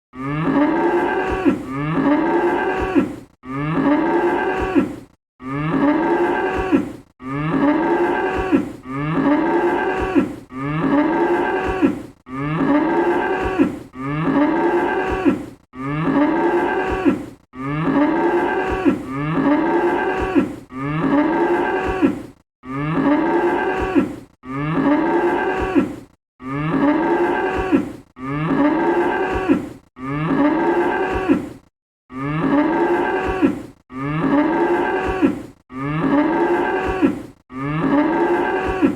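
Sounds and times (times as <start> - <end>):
cow mooing: 0.2 - 21.8, 22.6 - 25.7, 26.4 - 31.4, 32.1 - 35.0, 35.7 - 38.9.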